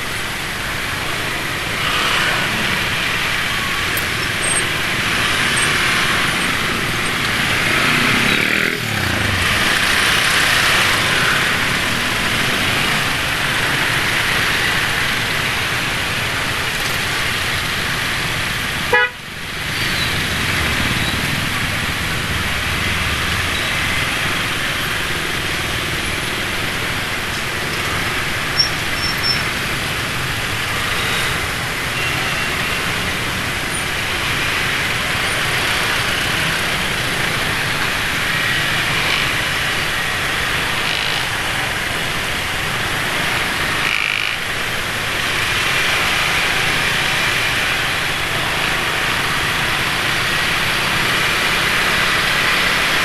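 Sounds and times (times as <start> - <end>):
motorcycle engines running: 0.0 - 53.0
steady road noise: 0.0 - 53.0.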